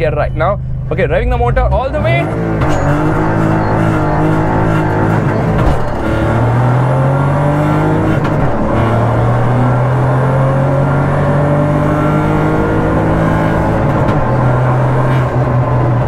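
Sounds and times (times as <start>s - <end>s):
car engine revving hard: 1.6s - 16.0s.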